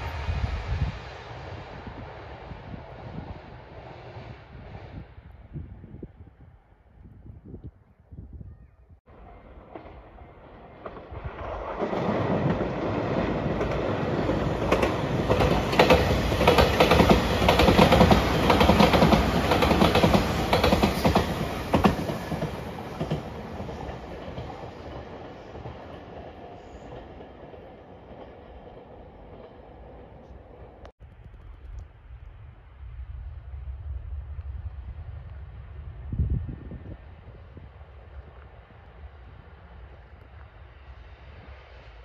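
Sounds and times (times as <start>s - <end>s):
electric train passing: 0.0s - 6.0s, 9.1s - 42.0s.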